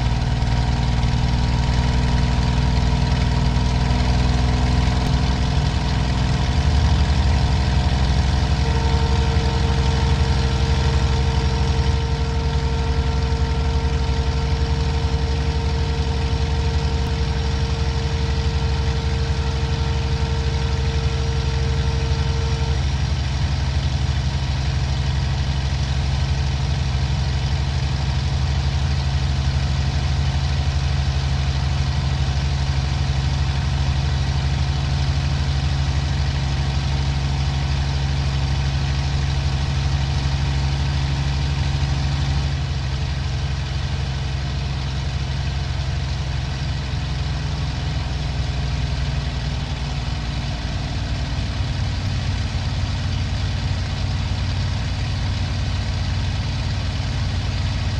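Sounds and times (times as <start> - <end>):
aircraft engine at high power: 0.0 - 57.9.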